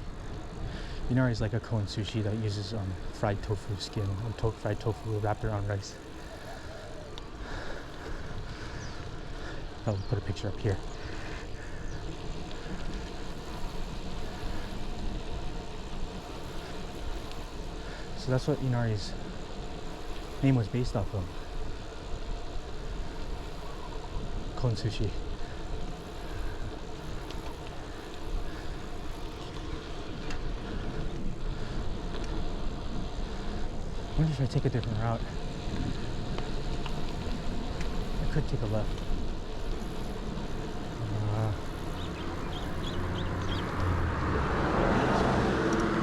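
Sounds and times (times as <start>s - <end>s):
bicycle road noise: 0.0s - 46.0s
faint ticks: 0.0s - 46.0s
wind buffeting microphone: 0.0s - 46.0s.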